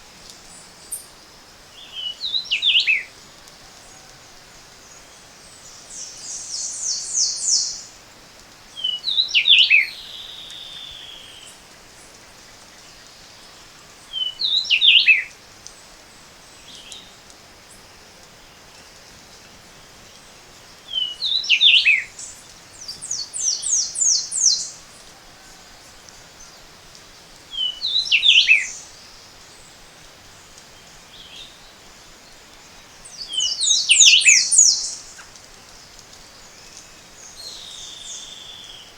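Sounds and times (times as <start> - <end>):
faint background hiss: 0.0 - 38.9.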